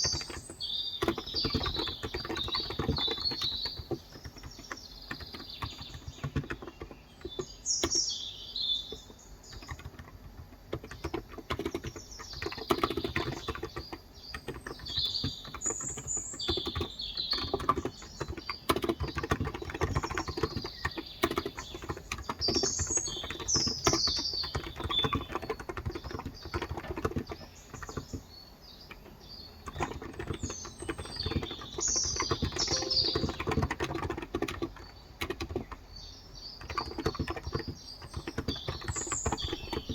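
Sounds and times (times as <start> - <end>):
small birds chirping: 0.0 - 39.9
typing on a keyboard: 0.0 - 39.9.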